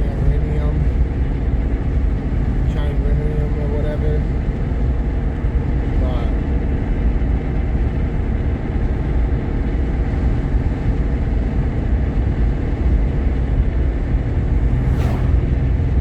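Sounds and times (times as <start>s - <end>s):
engine and road noise rumble: 0.0s - 16.0s.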